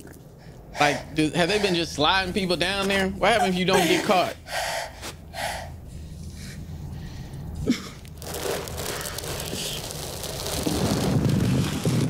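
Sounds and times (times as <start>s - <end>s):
low rumble of ambience: 0.0s - 12.0s.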